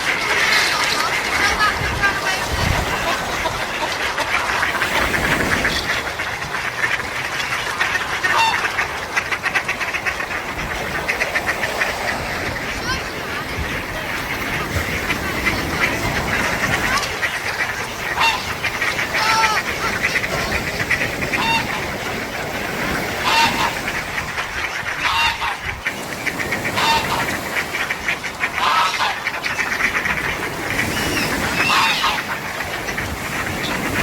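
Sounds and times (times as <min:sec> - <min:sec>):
gulls calling: 0:00.0 - 0:34.0
surf washing on beach: 0:00.0 - 0:34.0.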